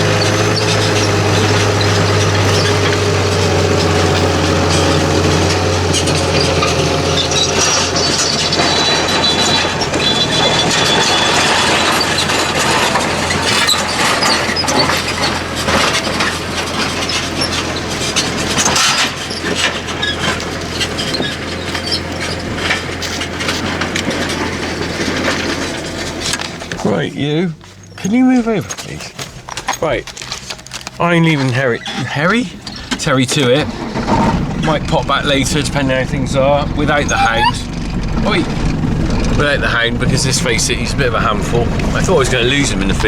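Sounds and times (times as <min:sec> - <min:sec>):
rattling and clattering: 0:00.0 - 0:43.0
vehicle engine humming: 0:00.0 - 0:43.0.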